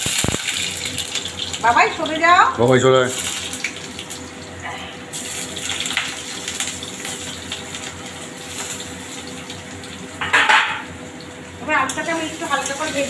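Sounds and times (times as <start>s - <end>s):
potatoes frying in hot oil: 0.0s - 13.0s.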